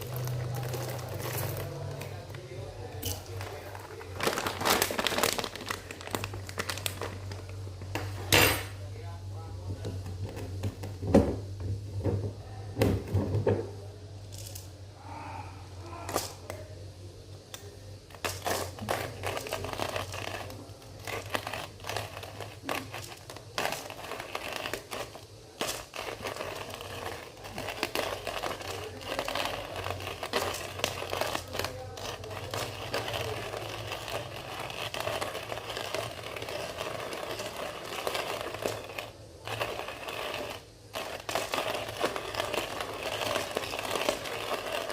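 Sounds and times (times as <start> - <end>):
coffee grinder crunching beans: 0.0 - 8.7, 14.2 - 14.8, 17.5 - 44.9.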